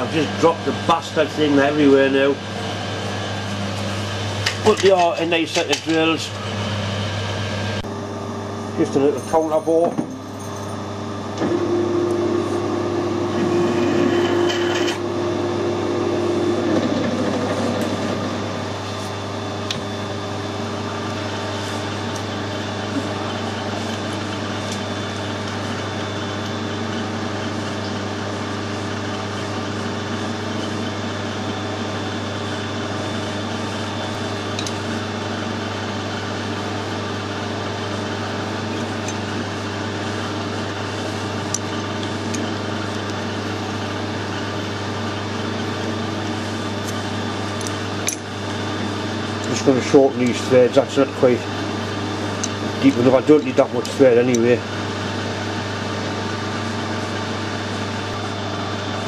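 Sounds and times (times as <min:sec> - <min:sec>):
lathe humming: 0:00.0 - 0:09.5, 0:10.4 - 0:59.0
drill cutting whine: 0:11.0 - 0:59.0.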